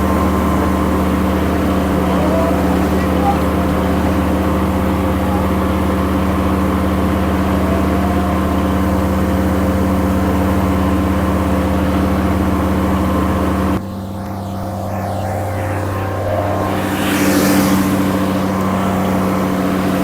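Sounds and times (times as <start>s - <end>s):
skid steer engines running: 0.0s - 20.0s.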